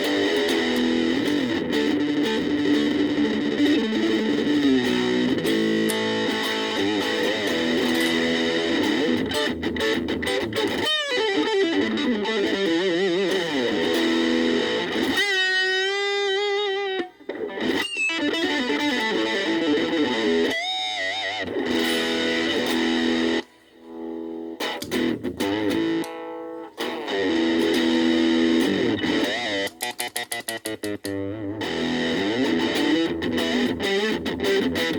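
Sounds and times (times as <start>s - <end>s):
electric guitar chords and runs: 0.0s - 34.9s.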